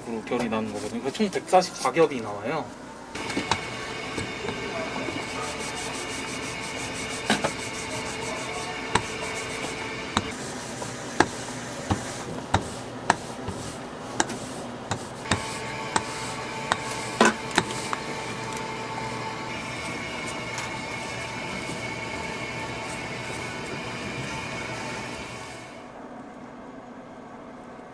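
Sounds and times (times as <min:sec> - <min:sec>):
rolling pin rubbing on dough: 0:03.2 - 0:25.6.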